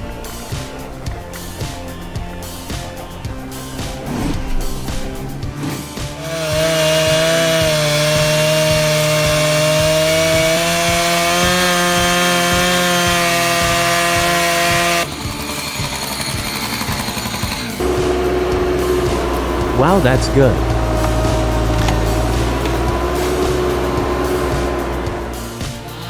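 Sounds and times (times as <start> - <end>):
chainsaw cutting wood: 0.0 - 25.8.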